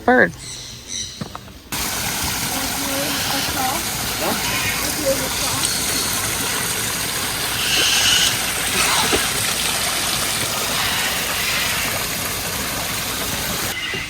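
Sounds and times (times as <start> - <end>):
running water rushing: 1.6 - 14.0.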